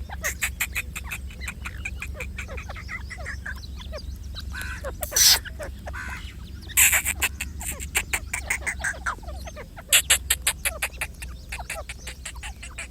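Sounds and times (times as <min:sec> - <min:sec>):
birds chirping and clicking: 0:00.0 - 0:12.9
steady low hum: 0:00.0 - 0:12.9.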